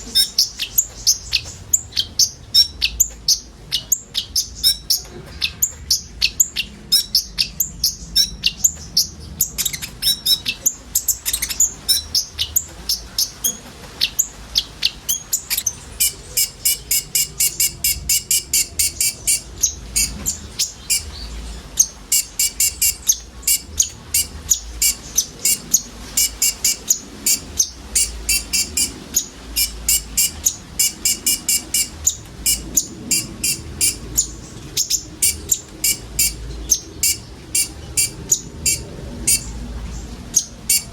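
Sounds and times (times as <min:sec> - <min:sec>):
sunbird chirping: 0:00.0 - 0:40.9.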